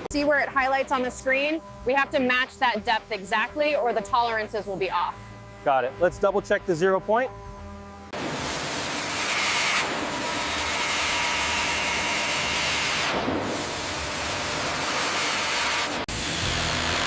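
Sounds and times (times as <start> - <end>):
woodworking machinery hissing: 0.0 - 17.0.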